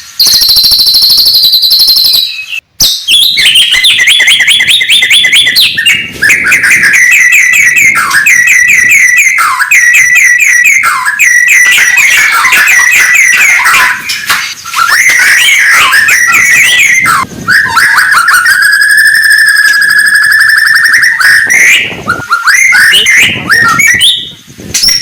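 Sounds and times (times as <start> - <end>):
bird singing whistled trills: 0.1 - 25.0.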